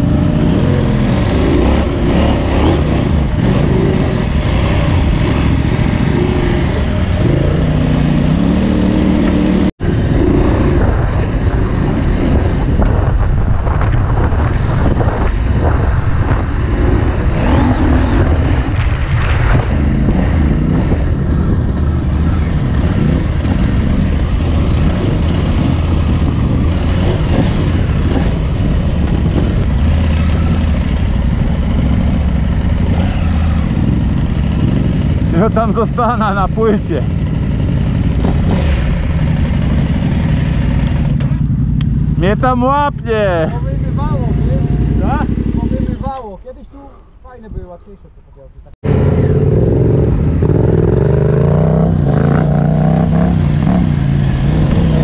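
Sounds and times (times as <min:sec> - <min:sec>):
motorcycle engine revving: 0:00.0 - 0:46.4, 0:48.8 - 0:55.0.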